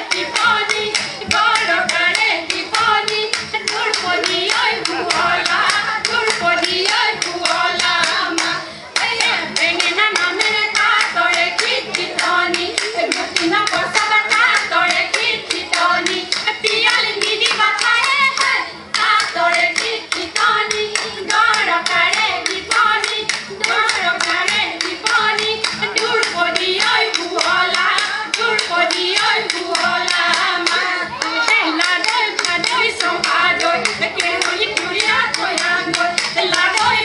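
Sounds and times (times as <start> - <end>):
fast hand claps: 0.0 - 37.0
women singing: 0.0 - 37.0.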